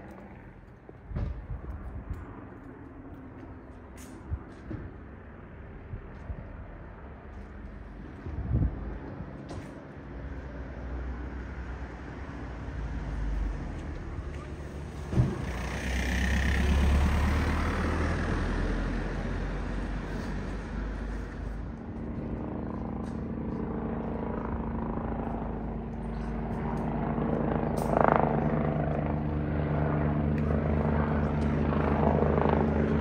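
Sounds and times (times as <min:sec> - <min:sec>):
helicopter rotor drone: 0:00.0 - 0:33.0.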